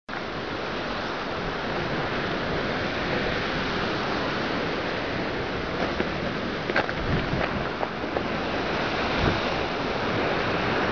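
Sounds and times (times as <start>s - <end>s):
ocean waves rushing on rocks: 0.1s - 10.9s.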